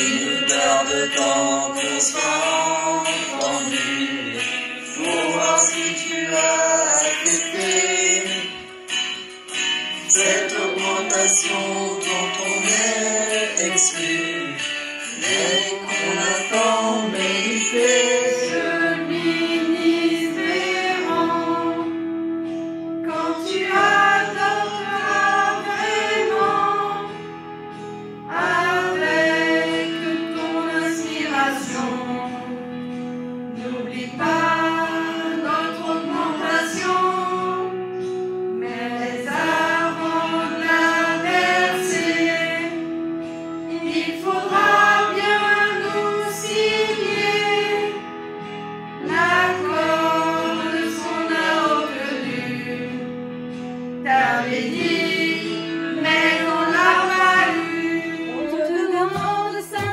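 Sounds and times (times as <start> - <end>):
group of people singing: 0.0 - 8.7, 10.0 - 22.1, 23.0 - 27.3, 28.3 - 32.8, 33.5 - 37.9, 38.5 - 43.0, 43.7 - 48.2, 49.0 - 53.2, 54.0 - 59.9.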